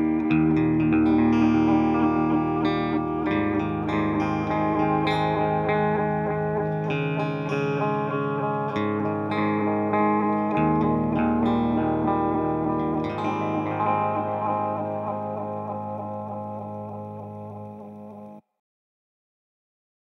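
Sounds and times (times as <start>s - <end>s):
electric guitar chords with delay: 0.0s - 18.4s.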